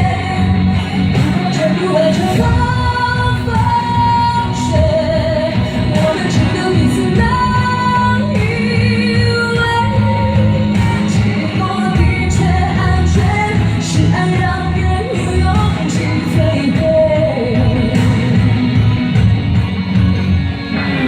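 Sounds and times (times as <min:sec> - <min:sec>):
person singing long notes: 0:00.0 - 0:19.0
band accompaniment with beat: 0:00.0 - 0:21.0.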